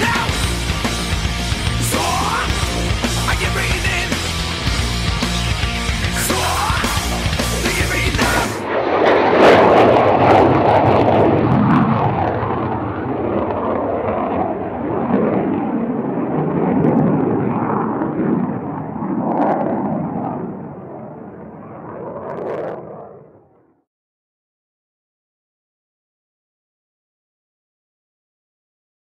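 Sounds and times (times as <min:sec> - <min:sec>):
jet aircraft engine roar: 0:00.0 - 0:23.7.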